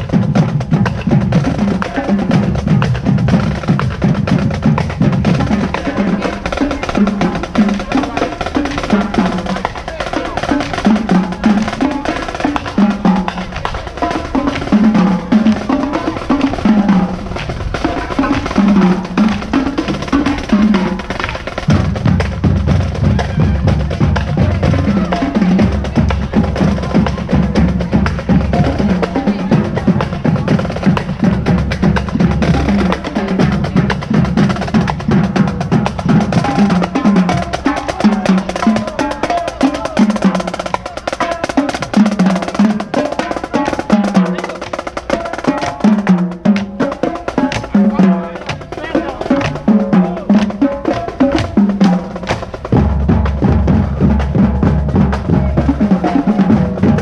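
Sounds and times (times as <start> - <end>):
bass drums: 0.0 - 57.0
snare drum rolls: 0.0 - 57.0.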